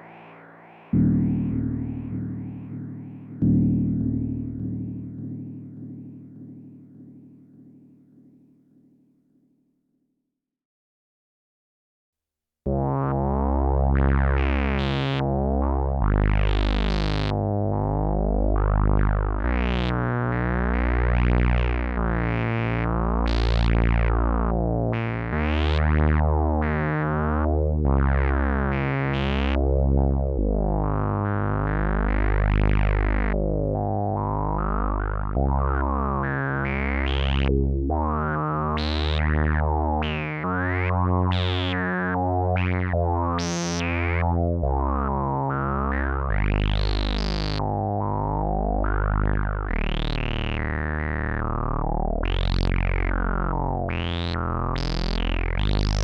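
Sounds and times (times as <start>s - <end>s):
deep buzzy synthesizer notes: 0.0s - 8.9s, 12.7s - 56.0s.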